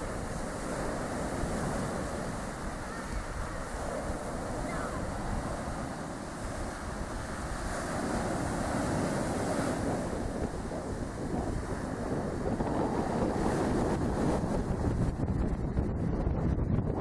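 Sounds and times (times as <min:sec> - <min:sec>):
waves breaking on shingle beach: 0:00.0 - 0:15.2
wind buffeting microphone: 0:00.0 - 0:17.0.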